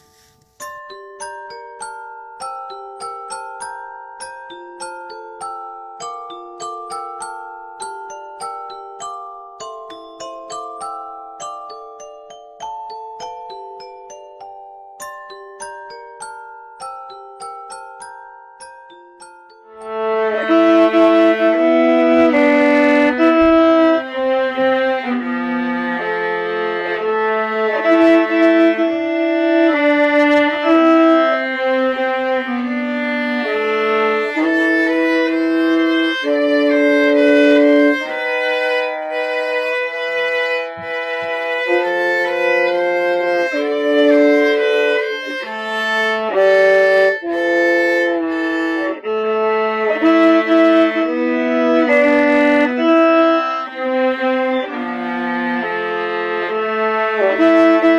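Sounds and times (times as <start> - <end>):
violas playing a duet: 0.0 - 57.9.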